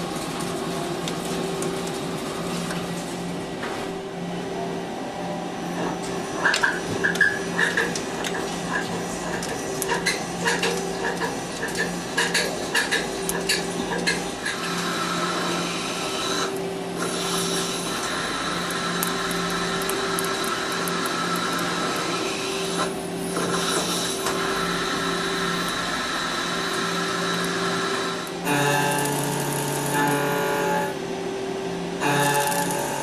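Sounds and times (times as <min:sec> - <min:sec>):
cnc machine whining: 0:05.4 - 0:33.0.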